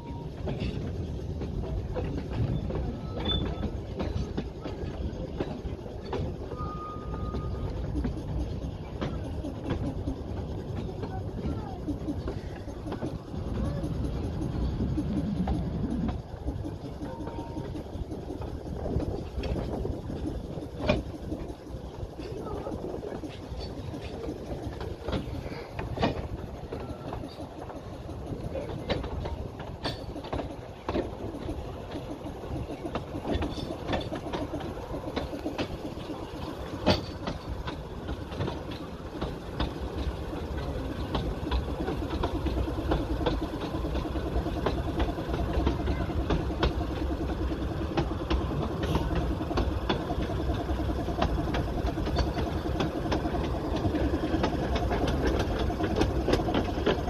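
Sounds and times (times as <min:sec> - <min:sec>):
steam train rumbling: 0:00.0 - 0:57.0
wheels clicking over rail joints: 0:00.0 - 0:57.0.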